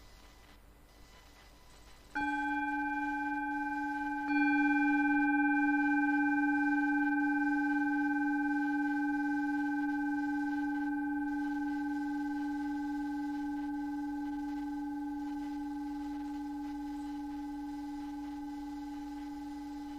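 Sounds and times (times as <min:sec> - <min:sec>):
ringing meditation tone: 0:02.1 - 0:19.9.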